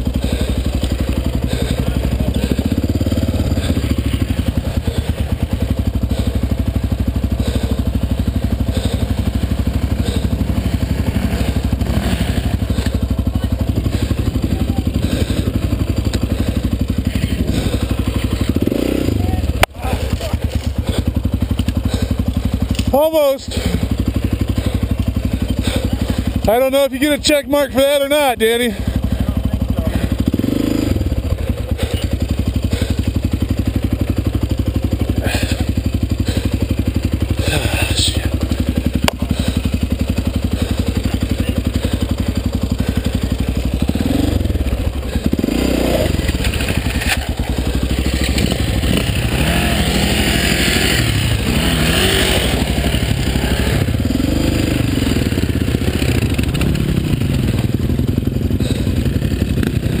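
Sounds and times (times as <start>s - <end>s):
dirt bike engine idling and revving: 0.0s - 60.0s.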